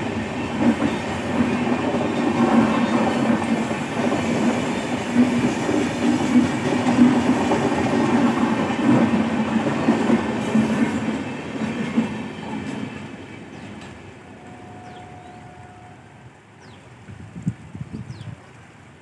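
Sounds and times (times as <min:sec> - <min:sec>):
train wheels rumbling on rails: 0:00.0 - 0:15.4.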